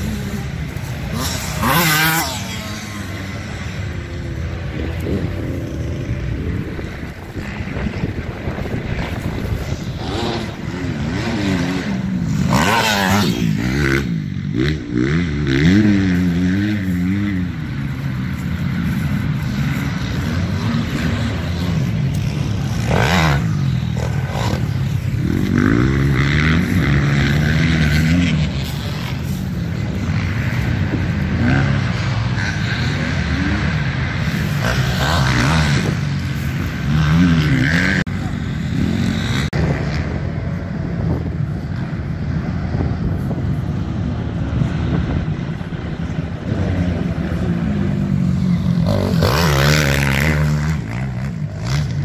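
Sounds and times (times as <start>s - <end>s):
dirt bike engine revving: 0.0s - 40.4s, 44.3s - 52.0s.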